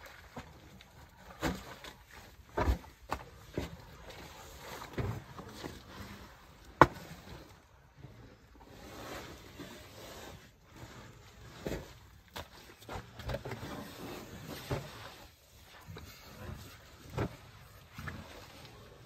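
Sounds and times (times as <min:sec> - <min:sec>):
wet mud squelching and thudding: 0:00.0 - 0:07.8, 0:11.5 - 0:19.0.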